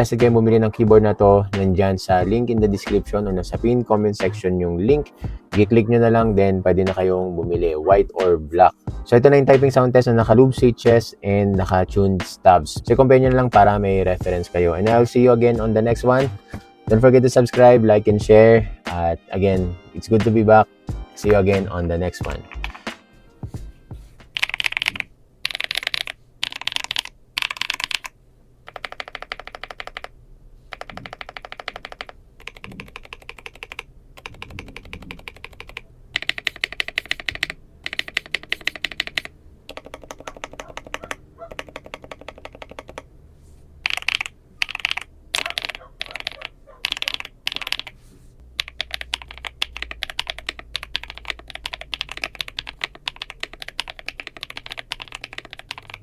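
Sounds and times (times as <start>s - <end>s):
rapid keyboard typing: 0.0s - 8.6s, 9.3s - 23.0s, 24.2s - 43.1s, 43.8s - 48.0s, 48.6s - 56.0s.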